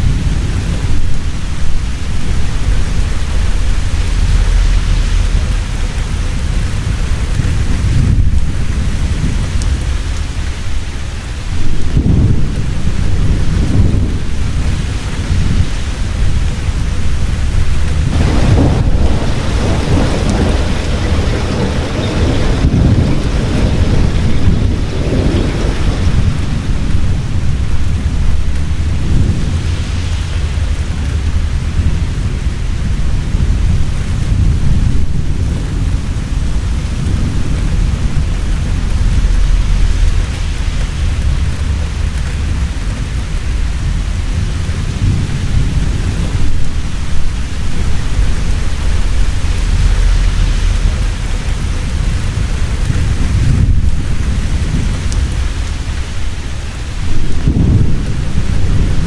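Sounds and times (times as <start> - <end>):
heavy rain falling: 0.0 - 59.0
rolling thunder rumble: 0.0 - 59.0.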